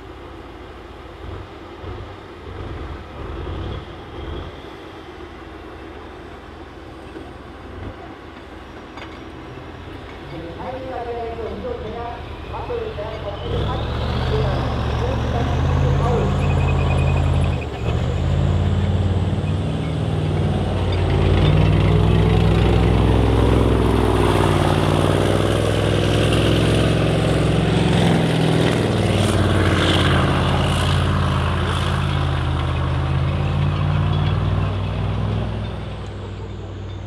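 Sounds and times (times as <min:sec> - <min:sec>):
tracked vehicle engine running: 0:00.0 - 0:37.0.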